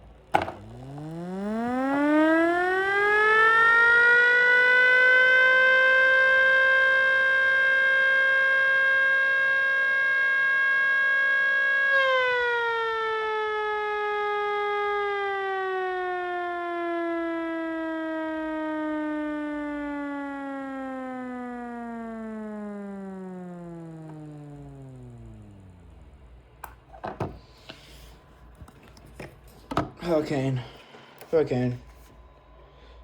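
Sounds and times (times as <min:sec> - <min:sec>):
mini siren wailing: 0:00.4 - 0:30.1.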